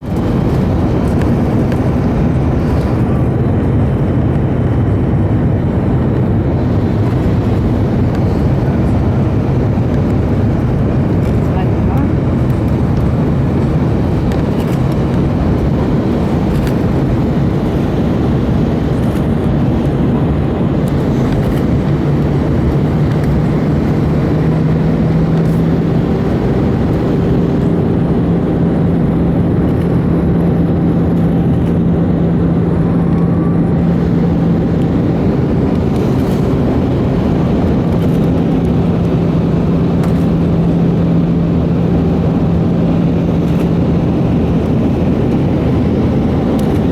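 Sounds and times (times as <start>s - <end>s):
airplane cabin air rush: 0.0s - 46.9s
jet engines droning: 0.0s - 46.9s
low hum: 0.0s - 46.9s.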